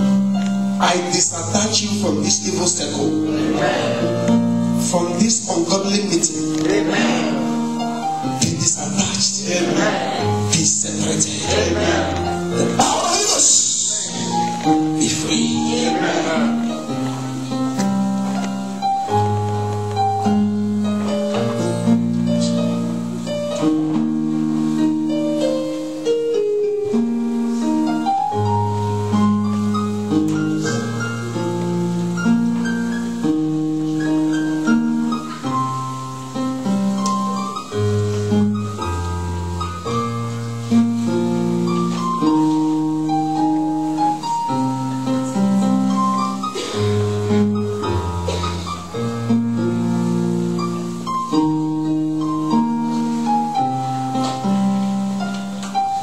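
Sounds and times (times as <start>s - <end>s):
slow keyboard chords: 0.0s - 56.0s.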